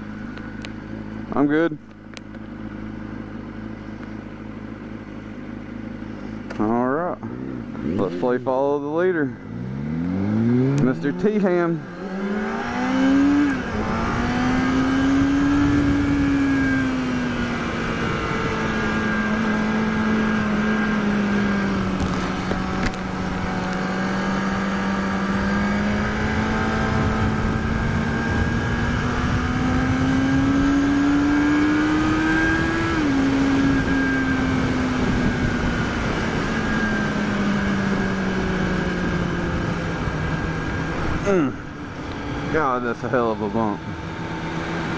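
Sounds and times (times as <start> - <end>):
motorcycle engine under throttle: 0.0 - 44.9.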